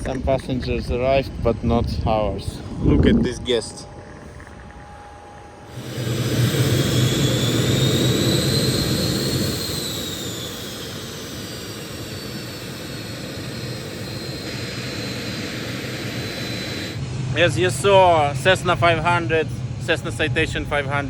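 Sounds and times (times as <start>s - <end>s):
jet roar with high whine: 0.0s - 21.0s.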